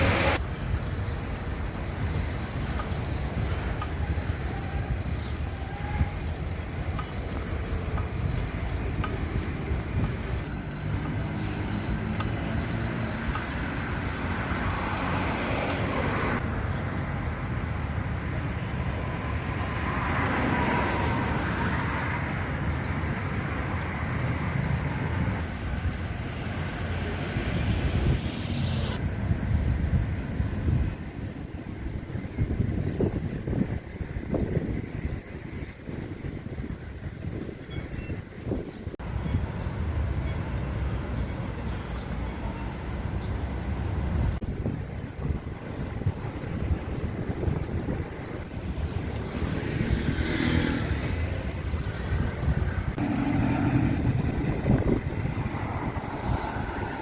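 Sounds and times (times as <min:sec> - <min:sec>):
traffic rumble: 0:00.0 - 0:57.0
vehicles passing by: 0:00.0 - 0:57.0.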